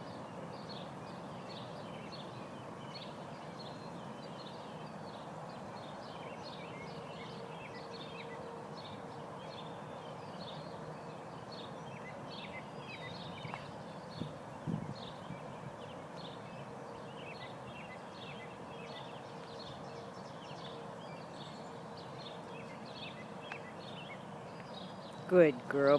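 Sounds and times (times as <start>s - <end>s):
outdoor background noise: 0.0s - 25.9s
small birds chirping: 0.0s - 25.9s.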